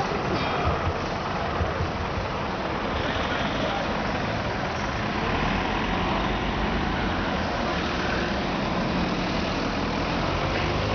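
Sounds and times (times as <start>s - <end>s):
road traffic passing: 0.0s - 10.9s.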